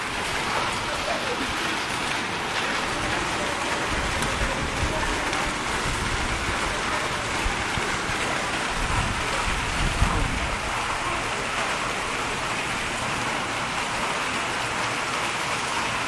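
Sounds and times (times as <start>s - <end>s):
hail and heavy rain pelting: 0.0s - 16.0s.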